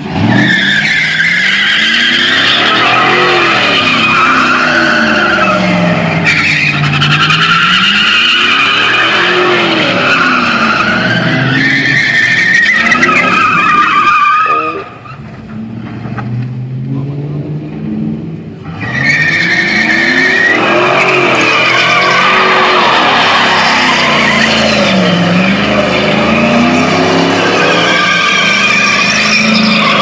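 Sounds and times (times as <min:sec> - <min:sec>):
truck engine revving: 0:00.0 - 0:14.0, 0:14.6 - 0:30.0
truck tires squealing: 0:00.0 - 0:16.0, 0:18.6 - 0:30.0.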